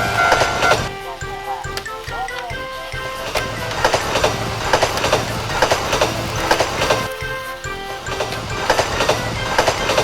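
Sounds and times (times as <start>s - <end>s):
toy train motor hum: 0.0s - 10.0s
wheels clicking over track joints: 0.0s - 10.0s.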